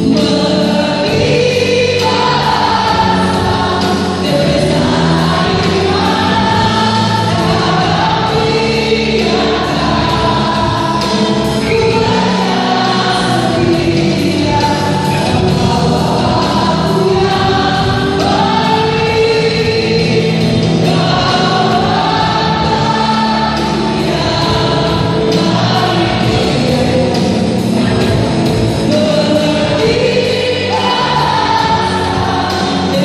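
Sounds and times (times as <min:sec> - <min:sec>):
live band: 0:00.0 - 0:33.0
women singing praise song: 0:00.0 - 0:33.0.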